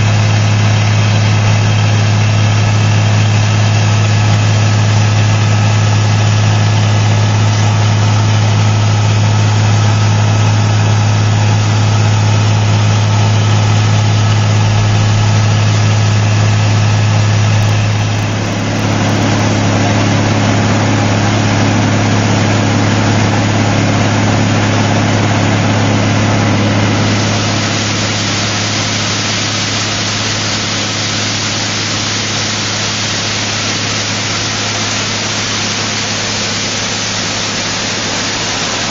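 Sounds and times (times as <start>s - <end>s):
diesel drill engine humming: 0.0s - 38.9s
loud steady hiss: 0.0s - 38.9s.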